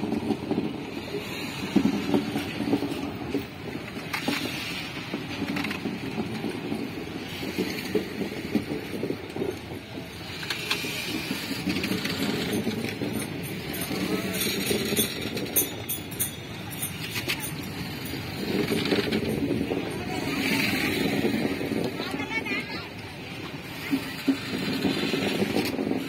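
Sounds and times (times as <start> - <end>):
train wheels rumbling on rails: 0.0 - 26.0
running gear clanks: 0.1 - 22.2.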